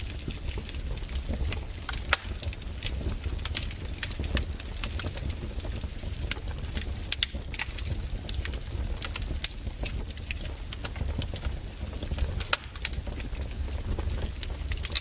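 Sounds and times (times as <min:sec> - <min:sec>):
low steady fire rumble: 0:00.0 - 0:15.0
wood fire crackling and popping: 0:00.0 - 0:15.0.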